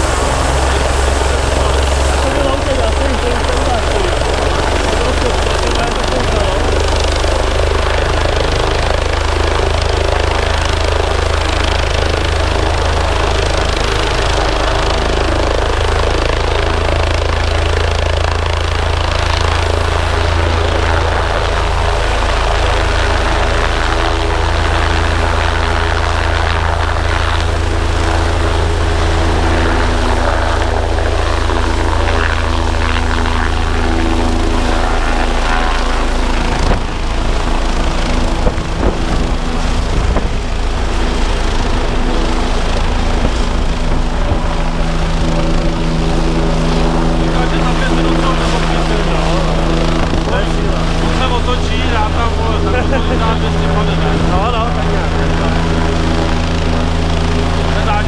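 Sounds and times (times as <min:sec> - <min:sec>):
helicopter rotor beat: 0:00.0 - 0:58.0
high turbine whine: 0:00.0 - 0:58.0.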